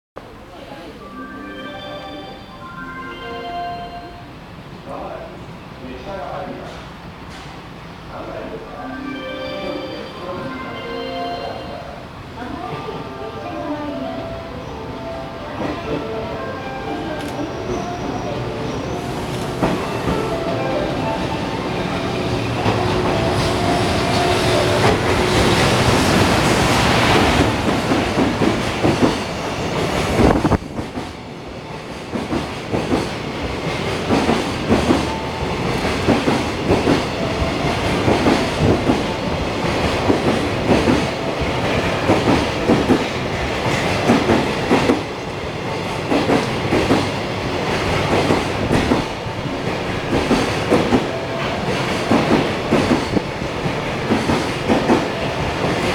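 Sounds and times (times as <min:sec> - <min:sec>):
electric locomotive passing: 0:00.2 - 0:55.9.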